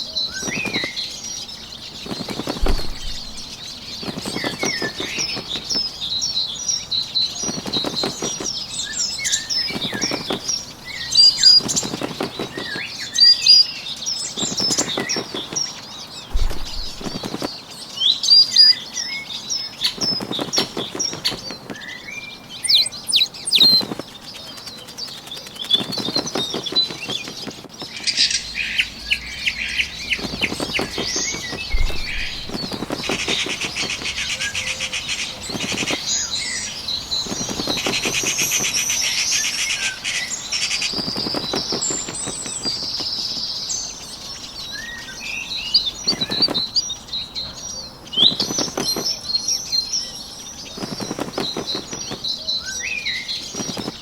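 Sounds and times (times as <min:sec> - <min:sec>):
small birds chirping and trilling: 0:00.0 - 0:54.0
rapid wing flapping: 0:00.3 - 0:06.3, 0:07.3 - 0:13.6, 0:14.3 - 0:17.8, 0:19.8 - 0:22.0, 0:22.7 - 0:43.5, 0:45.7 - 0:46.8, 0:48.2 - 0:49.4, 0:50.5 - 0:54.0.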